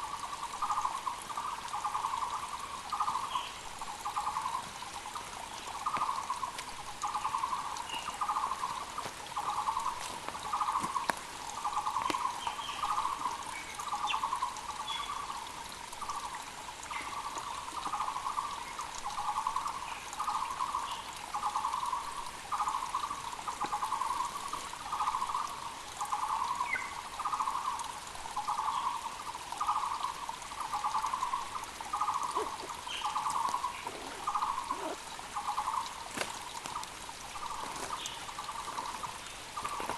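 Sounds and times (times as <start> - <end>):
creek water rushing: 0.0 - 39.9
small birds chirping: 0.1 - 39.9.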